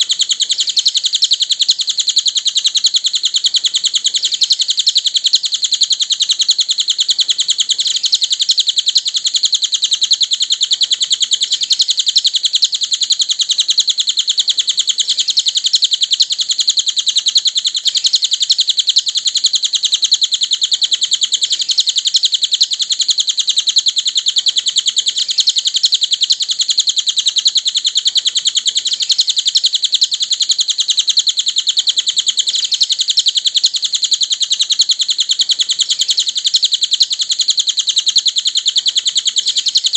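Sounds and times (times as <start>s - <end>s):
fast high-pitched bird chirps: 0.0s - 39.9s.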